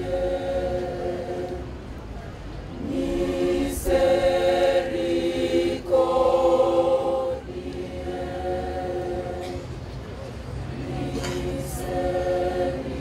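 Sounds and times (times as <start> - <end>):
women's choir singing a cappella: 0.0 - 1.9, 2.7 - 9.9, 10.7 - 13.0.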